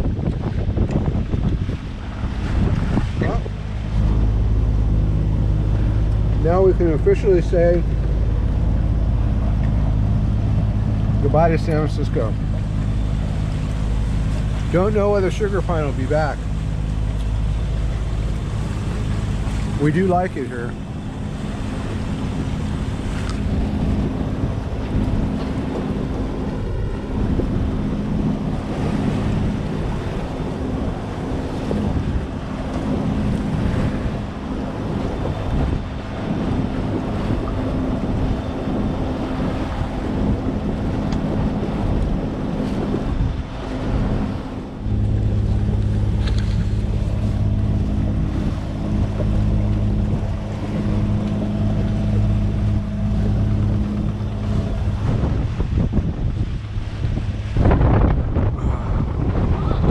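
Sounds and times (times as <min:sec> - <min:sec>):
engine hum: 0:00.0 - 0:59.9
heavy low rumble: 0:00.0 - 0:59.9
water washing past hull: 0:00.0 - 0:59.9
wind buffeting microphone: 0:00.0 - 0:59.9.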